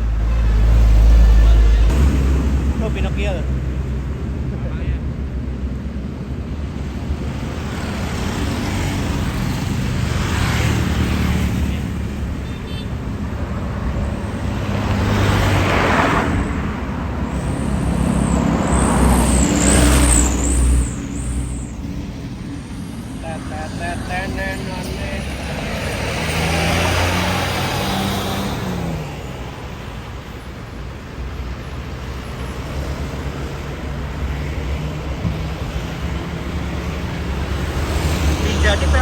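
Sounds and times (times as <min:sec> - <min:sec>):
bus diesel engines running: 0:00.0 - 0:39.0.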